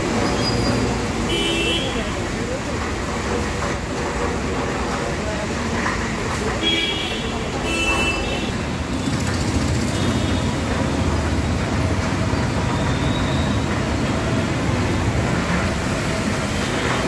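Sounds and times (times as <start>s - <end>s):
traffic engines rumbling: 0.0s - 17.0s
water washed aside by wheels: 0.0s - 17.0s.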